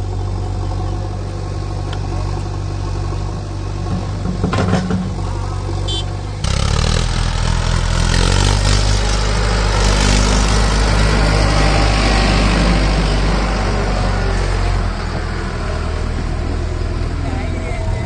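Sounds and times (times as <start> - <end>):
tractor diesel engine passing: 0.0 - 18.0.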